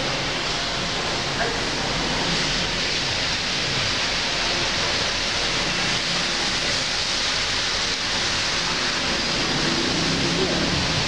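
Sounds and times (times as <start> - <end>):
heavy rain on foliage: 1.2 - 11.0.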